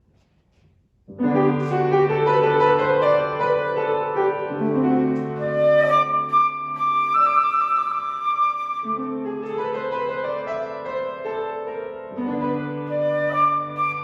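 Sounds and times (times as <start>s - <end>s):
slow piano chords: 1.1s - 14.0s.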